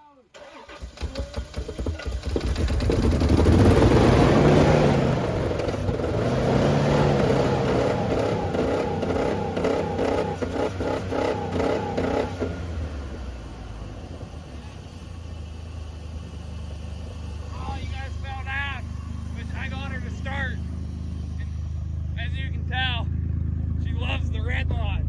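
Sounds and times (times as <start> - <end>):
car engine revving: 0.4 - 25.0.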